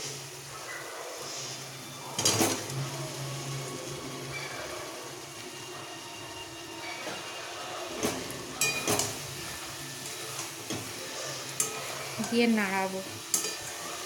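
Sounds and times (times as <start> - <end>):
chicken sizzling in sauce: 0.0 - 14.0.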